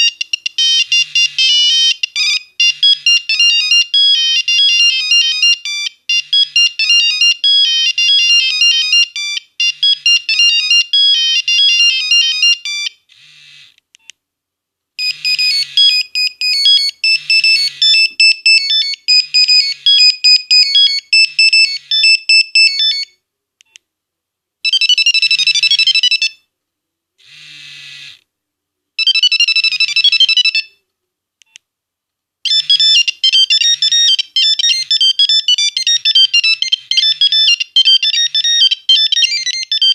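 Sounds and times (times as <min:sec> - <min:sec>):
mobile phone monophonic ringtones: 0:00.0 - 0:13.7, 0:15.0 - 0:23.2, 0:24.6 - 0:26.4, 0:29.0 - 0:30.8, 0:32.5 - 0:39.9.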